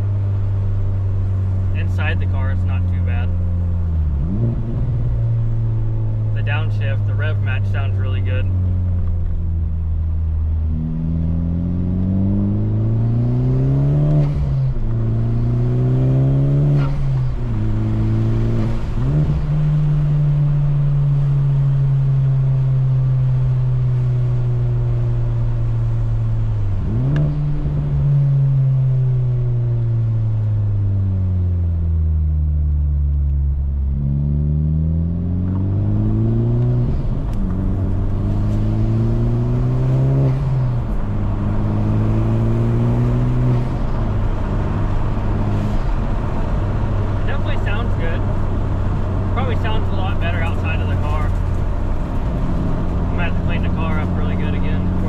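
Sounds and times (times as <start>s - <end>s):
car engine upshifting: 0.0s - 55.0s.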